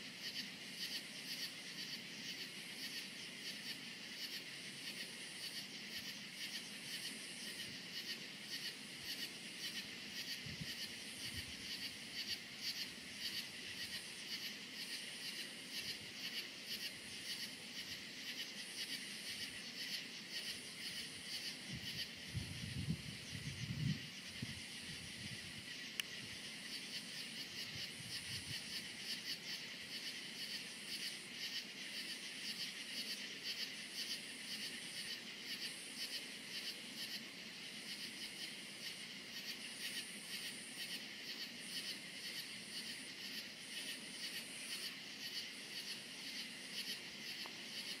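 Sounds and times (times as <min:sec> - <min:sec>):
crickets chirping: 0:00.0 - 0:48.0
high insect call: 0:00.0 - 0:48.0.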